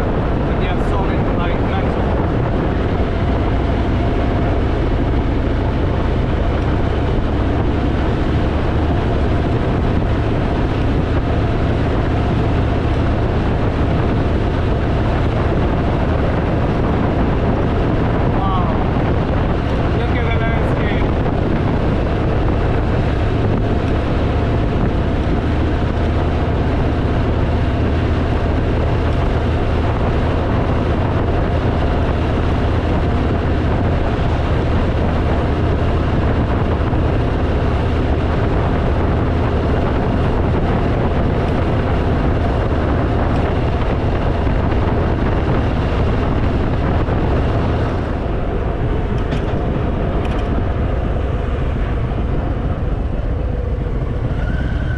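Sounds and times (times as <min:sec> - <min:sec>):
motorcycle engine hum: 0:00.0 - 0:54.9
wind rushing over microphone: 0:00.0 - 0:54.9.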